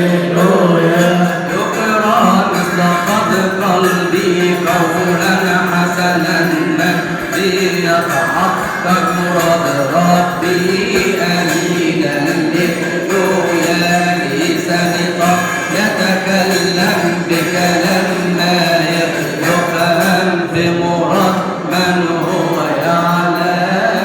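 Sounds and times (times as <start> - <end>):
chanted hymn melody: 0.0 - 24.0.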